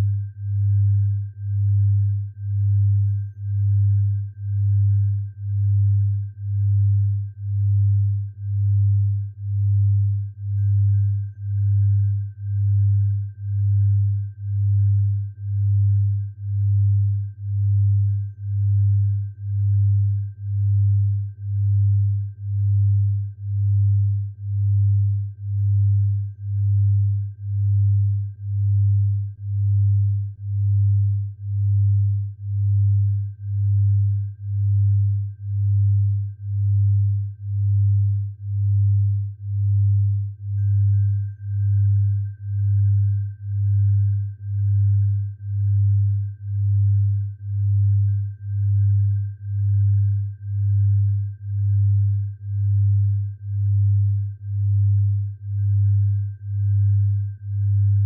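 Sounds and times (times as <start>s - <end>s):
faint steady higher tone: 0.0s - 58.0s
low pulsing sine tone: 0.0s - 58.0s.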